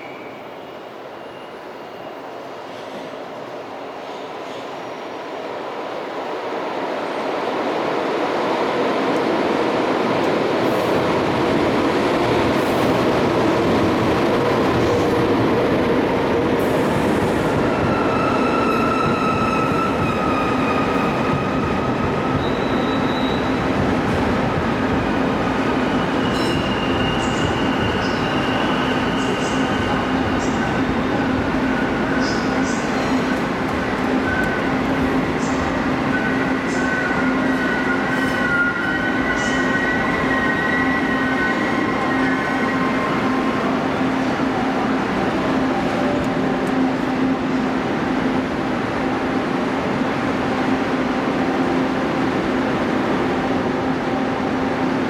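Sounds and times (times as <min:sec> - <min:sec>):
train wheels rumbling on rails: 0:08.3 - 0:55.0.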